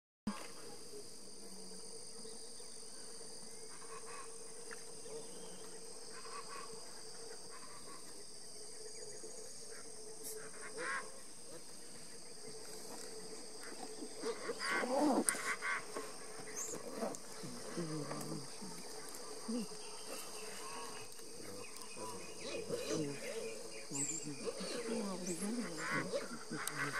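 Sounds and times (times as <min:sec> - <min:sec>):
high insect drone: 0:00.3 - 0:26.9.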